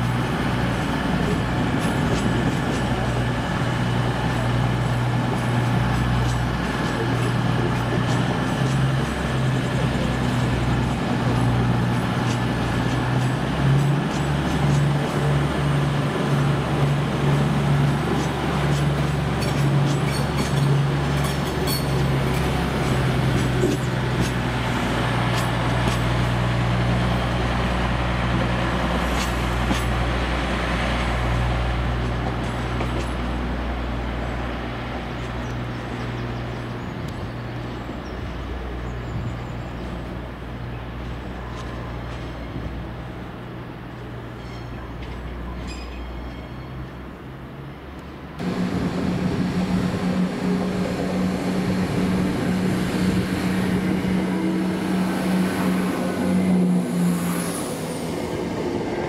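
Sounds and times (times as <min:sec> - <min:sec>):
diesel train engine drone: 0:00.0 - 0:59.0
rail and wheel noise: 0:00.0 - 0:59.0.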